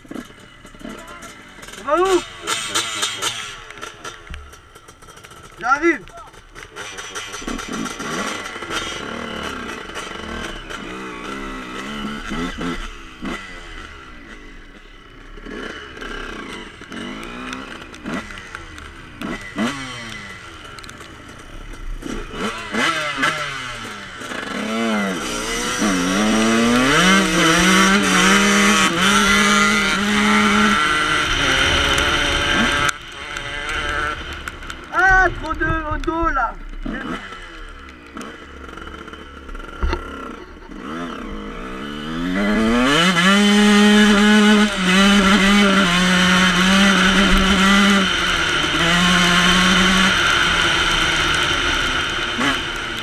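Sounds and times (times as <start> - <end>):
dirt bike engine accelerating: 0.0 - 53.0.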